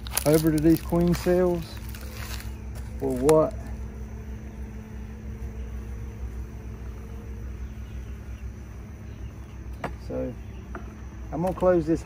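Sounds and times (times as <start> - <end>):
low rumble: 0.0 - 11.4
bees humming: 0.0 - 12.0.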